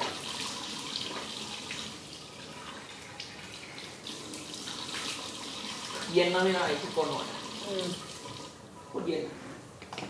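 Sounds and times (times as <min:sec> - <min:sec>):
tap water running into sink: 0:00.0 - 0:08.6.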